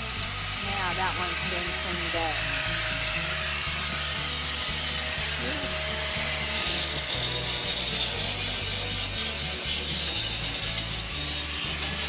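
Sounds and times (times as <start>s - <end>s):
angle grinder grinding metal: 0.0s - 12.0s
background music: 0.0s - 12.0s.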